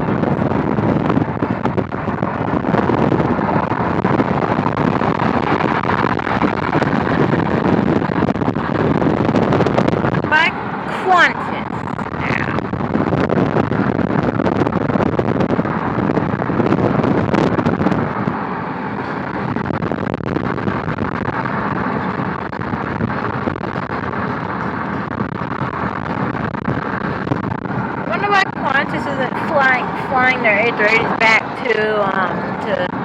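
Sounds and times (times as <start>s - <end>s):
engine-like roar: 0.0s - 33.0s.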